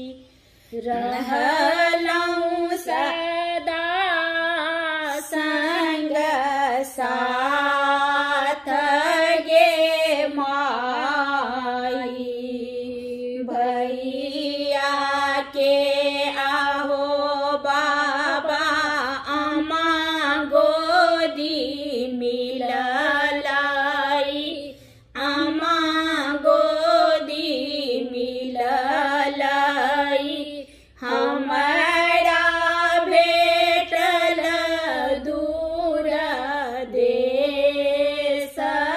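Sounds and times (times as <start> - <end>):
women singing unaccompanied: 0.0 - 38.9.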